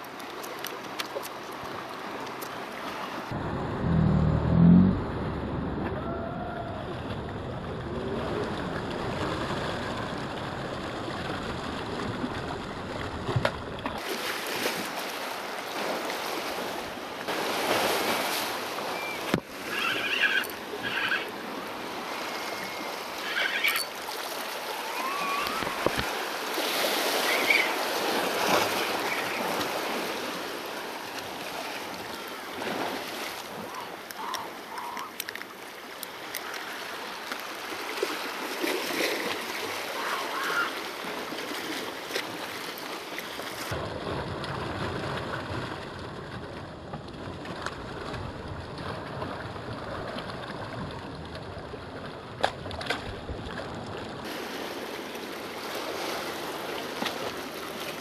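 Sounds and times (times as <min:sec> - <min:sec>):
sea waves washing against rocks: 0:06.9 - 0:58.0.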